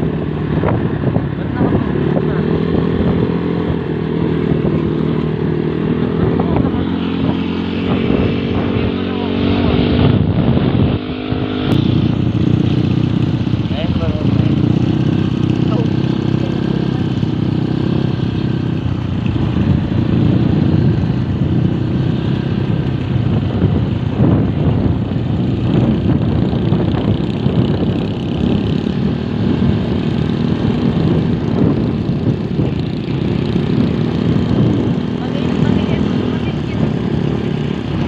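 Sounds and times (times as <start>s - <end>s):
road noise: 0.0s - 38.0s
vehicle engine running: 0.0s - 38.0s
wind: 0.0s - 38.0s.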